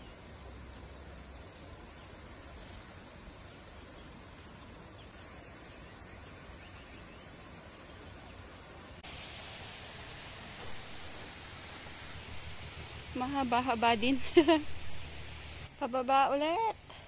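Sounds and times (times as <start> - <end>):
background hiss: 0.0 - 17.0
insects droning: 0.0 - 17.0.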